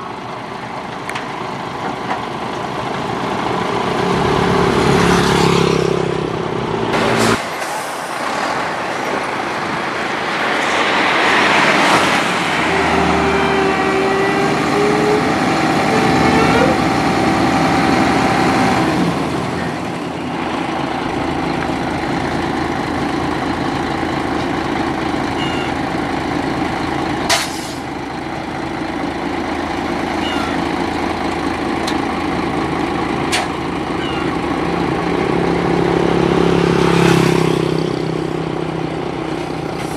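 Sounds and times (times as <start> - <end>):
diesel truck engine drone: 0.0 - 39.9
passing traffic: 0.0 - 39.9.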